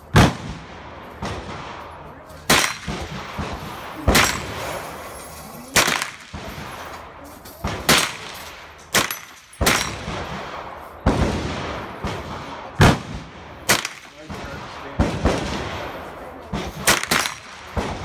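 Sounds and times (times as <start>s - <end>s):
gunshots with echo: 0.0s - 18.0s.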